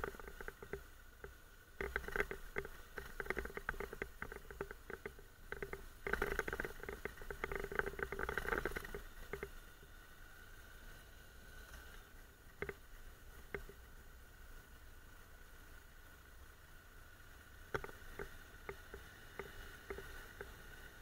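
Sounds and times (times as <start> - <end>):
motorcycle rattling over rough ground: 0.0 - 21.0.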